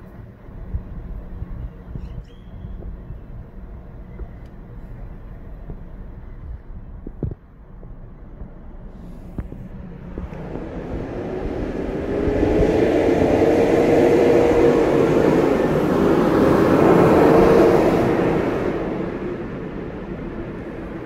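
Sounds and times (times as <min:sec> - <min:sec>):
road noise: 0:00.0 - 0:21.0
vehicle engine drone: 0:00.0 - 0:21.0.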